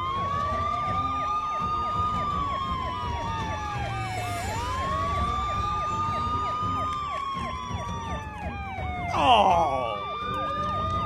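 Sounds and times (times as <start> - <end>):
siren wailing: 0.0 - 11.0
siren yelping: 0.0 - 11.0.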